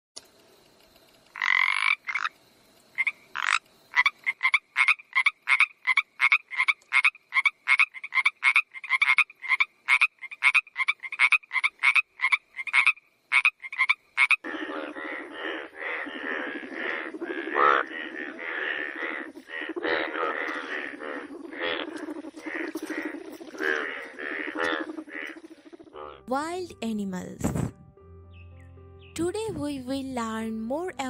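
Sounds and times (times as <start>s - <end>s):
low continuous frog call: 0.4s - 26.3s
frog croaking: 1.3s - 26.3s.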